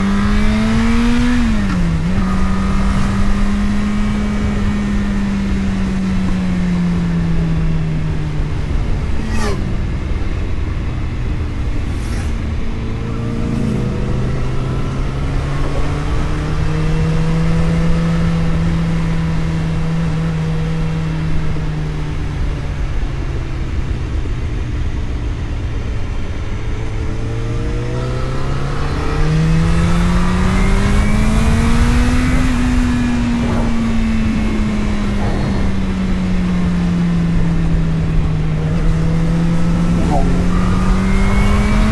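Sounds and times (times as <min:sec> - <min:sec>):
road rumble: 0:00.0 - 0:41.9
vehicle engine while driving: 0:00.0 - 0:41.9.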